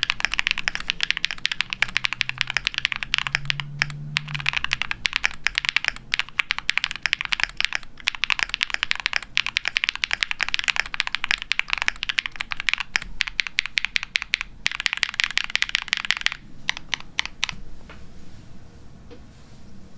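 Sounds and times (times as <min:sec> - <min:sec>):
fast typing on mechanical keyboard: 0:00.0 - 0:17.6.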